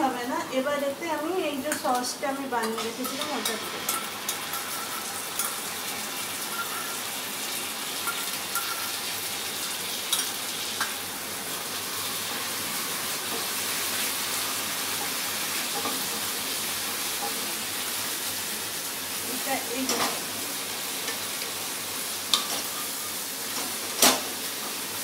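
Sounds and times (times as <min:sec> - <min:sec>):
garlic sizzling in oil: 0:00.0 - 0:25.0.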